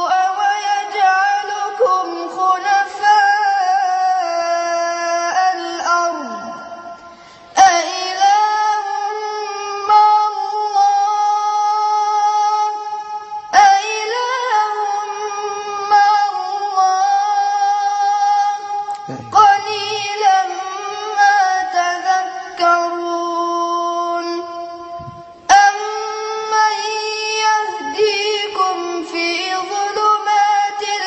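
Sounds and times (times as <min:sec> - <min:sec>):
boy chanting melodically: 0:00.0 - 0:31.0.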